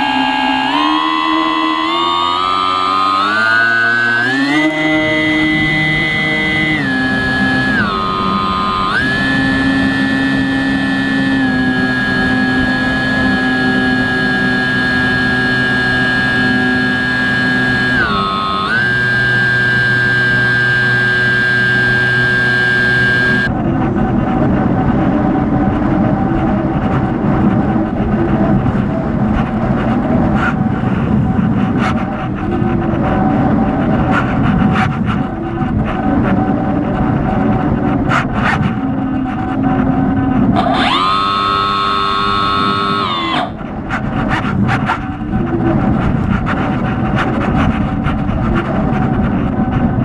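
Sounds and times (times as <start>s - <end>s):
model aircraft motor humming: 0.0s - 24.8s, 26.5s - 50.0s
heavy rushing noise: 0.0s - 50.0s
wind noise on microphone: 0.0s - 50.0s.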